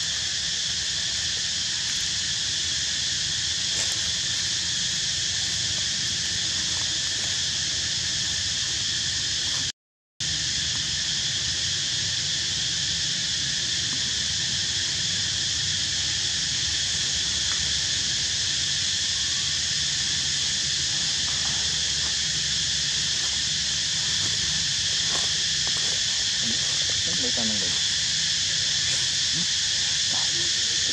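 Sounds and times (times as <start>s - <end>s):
high hiss: 0.0s - 30.9s.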